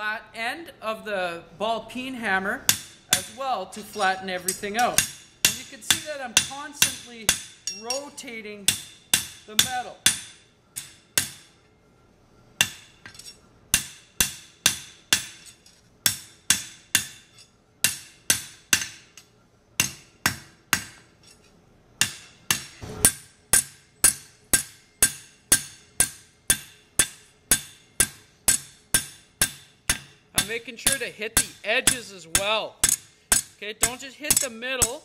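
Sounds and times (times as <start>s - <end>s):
hammer striking steel on anvil: 2.7s - 11.6s, 12.6s - 21.4s, 22.0s - 35.0s.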